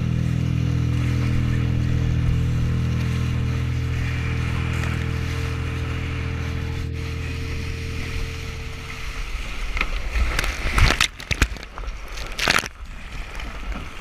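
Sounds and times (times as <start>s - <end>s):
water splashing against hull: 0.0s - 14.0s
loud spray splashes: 0.3s - 14.0s.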